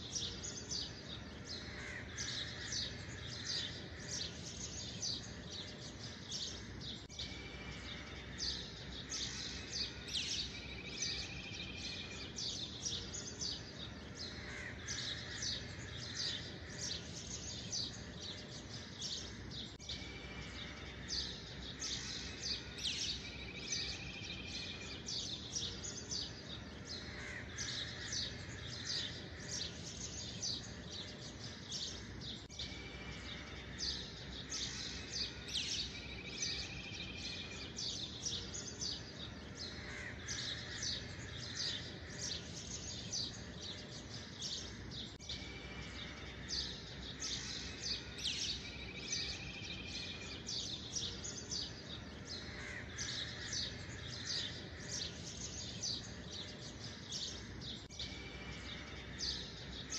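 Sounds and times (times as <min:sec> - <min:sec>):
birds chirping: 0:00.0 - 0:59.9
low warbling bird trill: 0:00.0 - 0:59.9.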